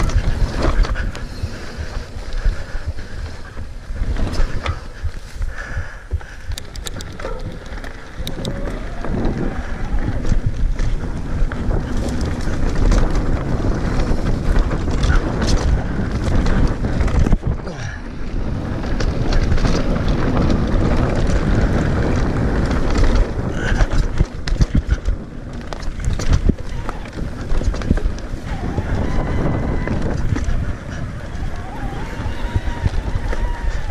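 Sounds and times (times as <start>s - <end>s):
bike rattles and clicks: 0.0s - 33.9s
tyres rumbling over trail: 0.0s - 33.9s
wind buffeting microphone: 0.0s - 33.9s.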